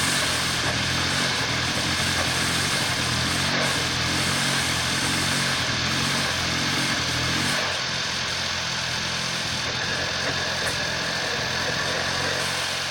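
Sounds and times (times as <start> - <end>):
car engine rough idle: 0.0 - 12.9.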